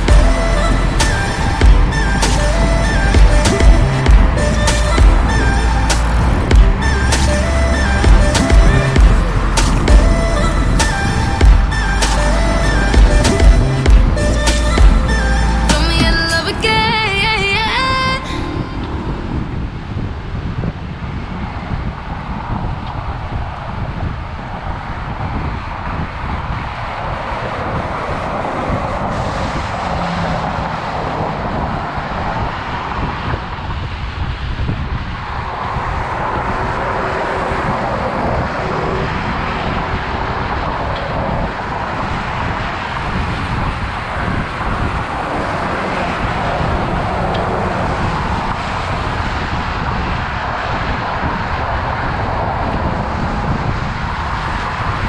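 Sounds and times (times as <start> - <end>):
road traffic rumbling past: 0.0 - 55.0
wind rushing over microphone: 0.0 - 55.0.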